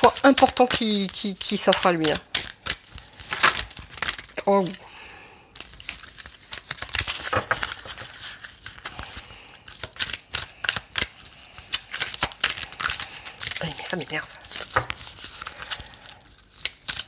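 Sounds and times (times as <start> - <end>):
cards being shuffled: 0.0 - 4.8, 5.6 - 17.0.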